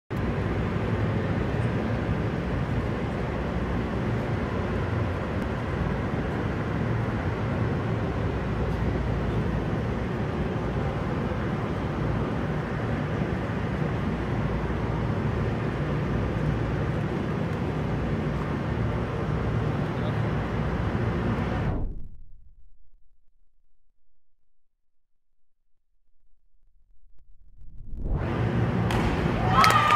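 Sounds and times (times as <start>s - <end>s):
steady rumbling hall ambience: 0.1s - 21.9s, 27.6s - 29.9s.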